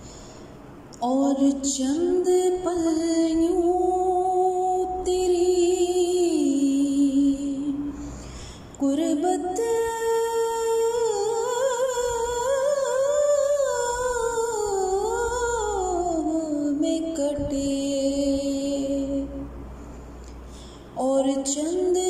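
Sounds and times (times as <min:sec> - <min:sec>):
woman singing slow melody: 0:00.9 - 0:08.1, 0:08.7 - 0:19.5, 0:21.0 - 0:22.0.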